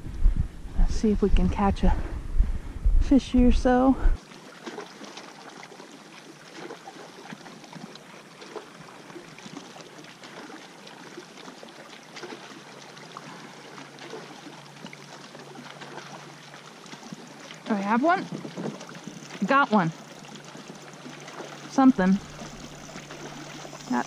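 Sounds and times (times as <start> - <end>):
water trickling and lapping: 1.0 - 24.0
small water splashes: 4.2 - 24.0.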